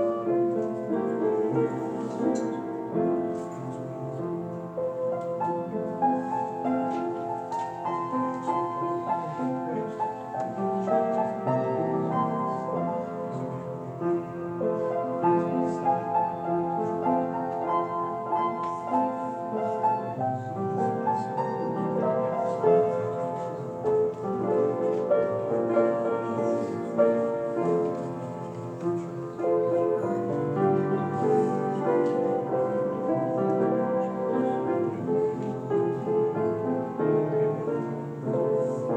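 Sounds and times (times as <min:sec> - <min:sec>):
slow solo piano piece: 0:00.0 - 0:38.9.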